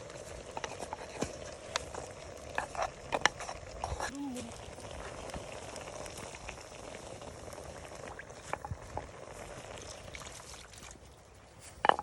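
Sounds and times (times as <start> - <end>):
liquid simmering in pot: 0.0 - 12.0.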